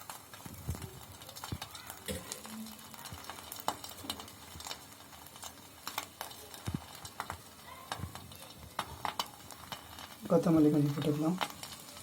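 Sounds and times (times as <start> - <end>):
egg frying in oil: 0.0 - 12.0.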